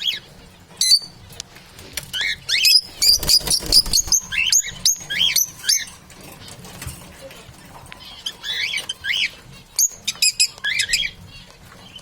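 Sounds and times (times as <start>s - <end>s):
parrots chirping: 0.0s - 1.2s, 2.1s - 6.6s, 8.0s - 12.0s.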